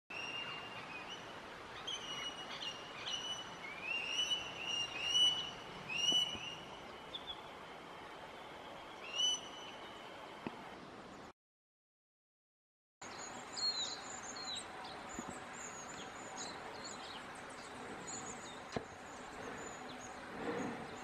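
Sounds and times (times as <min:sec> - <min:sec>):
bird chirping: 0:00.1 - 0:10.2, 0:13.0 - 0:21.0
faint outdoor hiss: 0:00.1 - 0:11.3, 0:13.0 - 0:21.0.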